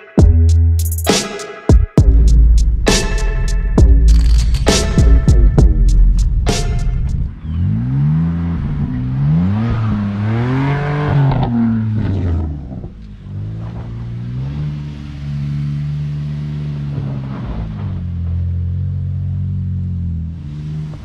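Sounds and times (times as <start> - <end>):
car engine revving: 2.0 - 21.0.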